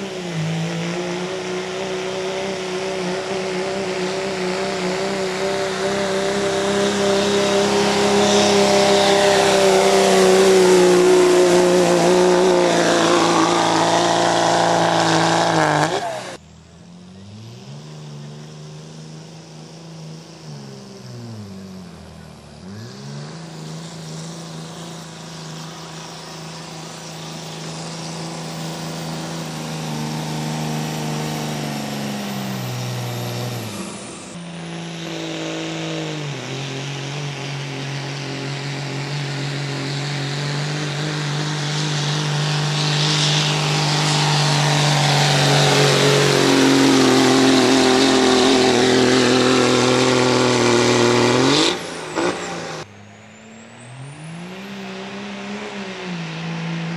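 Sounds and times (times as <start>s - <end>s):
truck engine under load: 0.0s - 56.9s.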